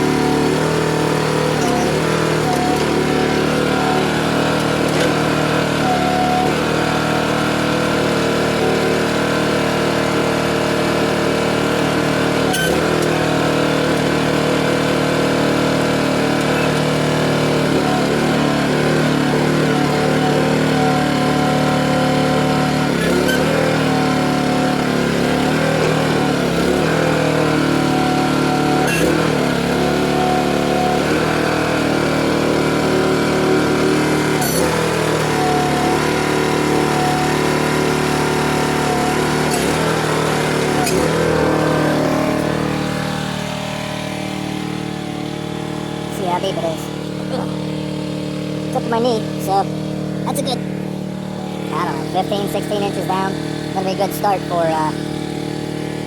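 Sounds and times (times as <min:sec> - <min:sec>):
backhoe engine running: 0:00.0 - 0:56.0.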